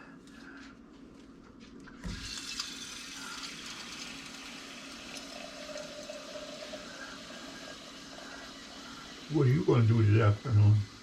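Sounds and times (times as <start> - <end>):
water running from tap: 2.0 - 11.0.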